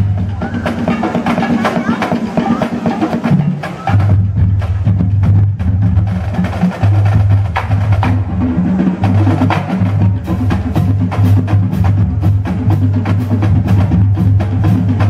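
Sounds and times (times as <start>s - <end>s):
marching drumline cadence: 0.0s - 15.0s.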